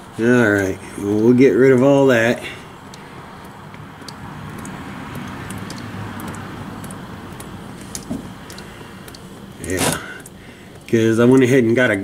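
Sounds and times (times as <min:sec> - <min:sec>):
fluid trickling into a pan: 0:00.6 - 0:11.5.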